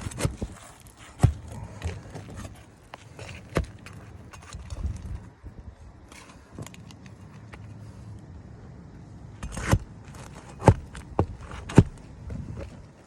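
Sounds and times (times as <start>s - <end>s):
rustling and scraping on shingles: 0.0s - 8.4s, 9.4s - 13.0s.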